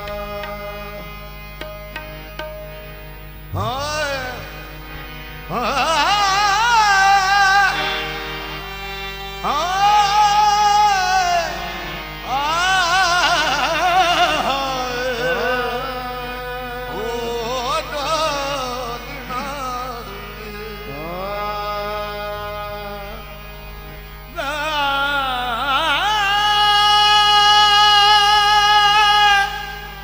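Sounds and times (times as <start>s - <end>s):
person singing with vibrato: 3.4s - 30.0s.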